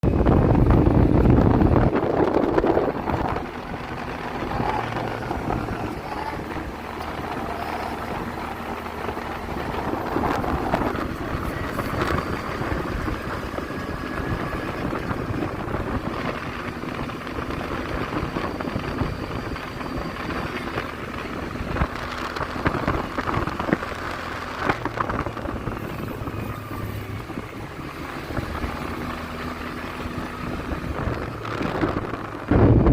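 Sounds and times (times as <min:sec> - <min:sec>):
quad bike engine running: 0:00.0 - 0:32.9
road noise: 0:00.0 - 0:32.9
wind noise: 0:00.0 - 0:32.9.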